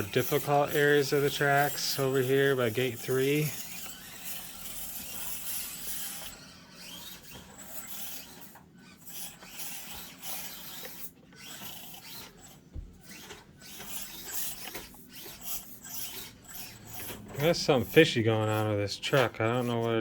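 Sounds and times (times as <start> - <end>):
small electric motor whirring: 0.0 - 20.0.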